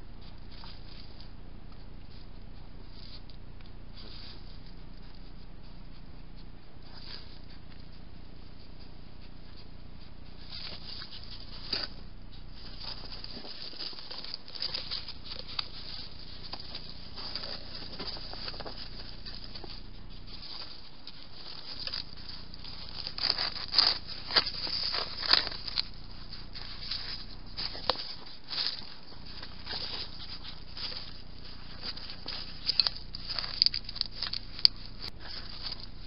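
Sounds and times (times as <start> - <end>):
hedgehogs scuffling on paving: 0.0 - 36.0.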